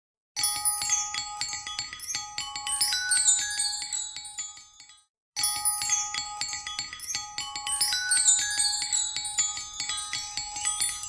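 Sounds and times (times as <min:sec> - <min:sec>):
bell-like glockenspiel tune: 0:00.4 - 0:11.0.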